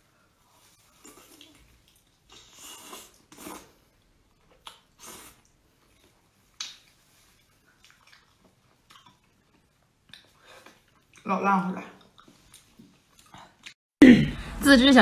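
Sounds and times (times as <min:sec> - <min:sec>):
wet sucking and chewing: 0:00.5 - 0:11.3, 0:12.0 - 0:13.8.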